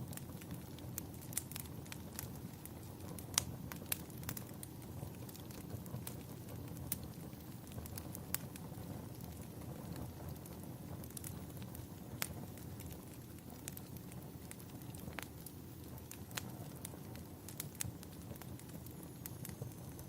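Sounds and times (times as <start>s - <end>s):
wood fire crackling: 0.0s - 20.0s
sharp pops of burning wood: 0.1s - 19.9s.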